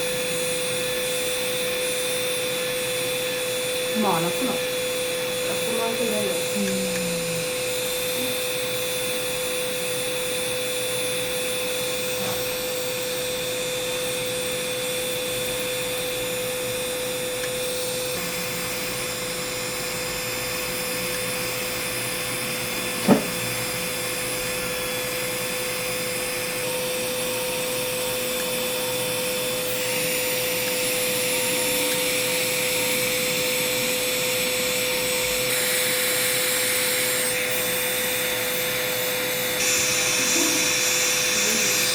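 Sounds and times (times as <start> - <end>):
electric foot-care drill whining: 0.0 - 41.9.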